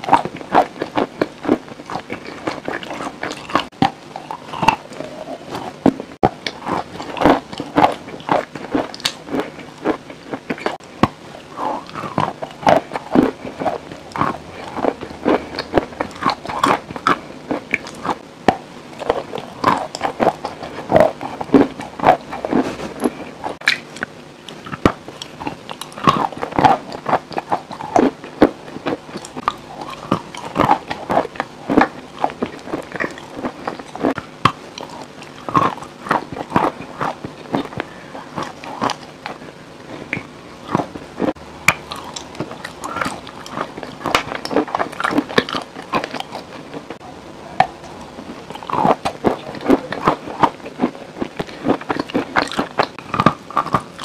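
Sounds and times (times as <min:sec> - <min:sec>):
biting and chewing crackles: 0:00.0 - 0:54.0.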